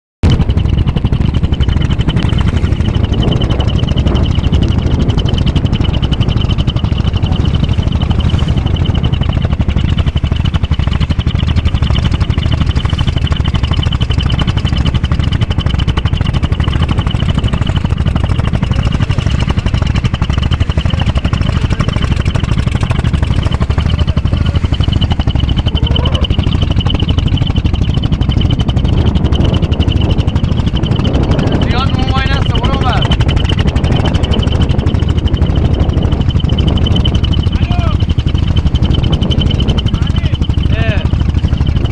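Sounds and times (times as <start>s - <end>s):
boat engine running loudly: 0.2s - 41.9s
high whine: 0.2s - 41.9s.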